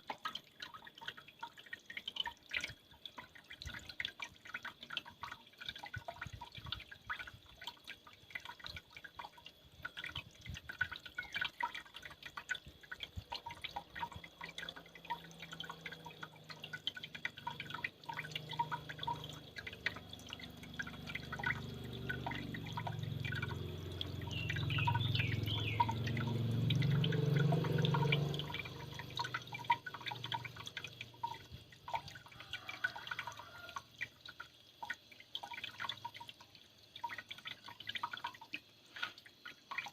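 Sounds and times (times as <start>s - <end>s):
water dripping and trickling: 0.0s - 39.9s.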